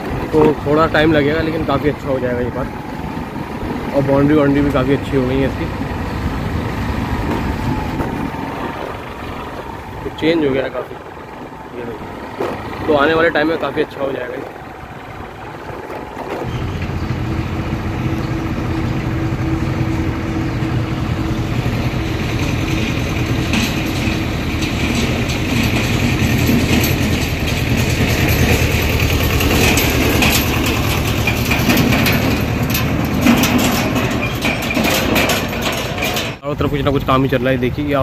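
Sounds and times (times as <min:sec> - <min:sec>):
tractor engine drone: 0:00.0 - 0:38.0
trailer clattering rattle: 0:00.0 - 0:38.0.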